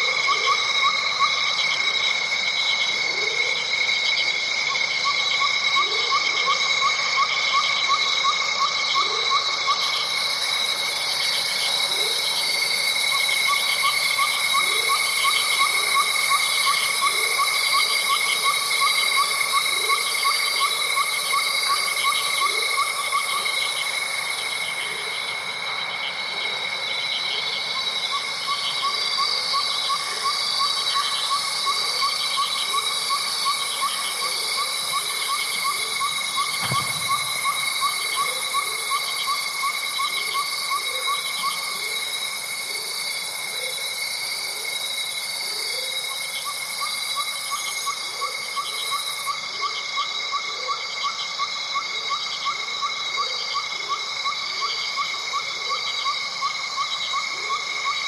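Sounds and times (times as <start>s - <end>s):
high-pitched insect trilling: 0.0s - 50.5s.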